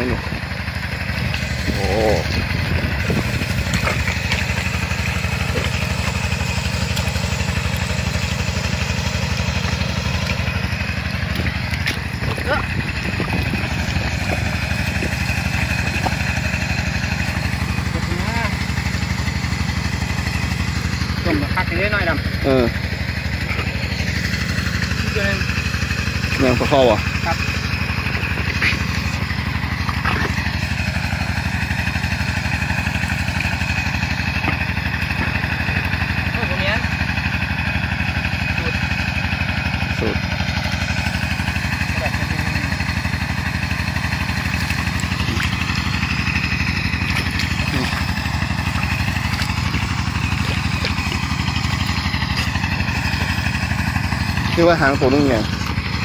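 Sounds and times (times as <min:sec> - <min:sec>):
small engine idling: 0:00.0 - 0:56.0.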